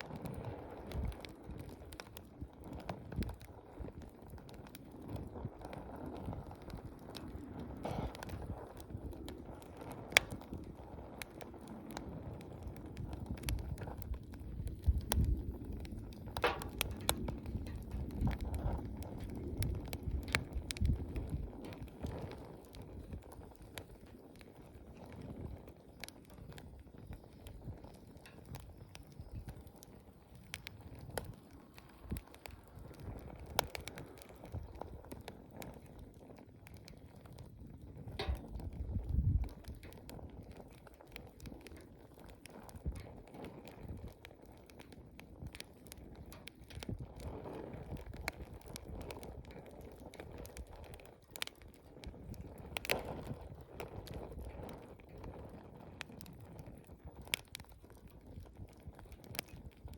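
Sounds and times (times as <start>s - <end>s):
campfire crackling and popping: 0.0s - 59.9s
rush of flame: 0.0s - 59.9s.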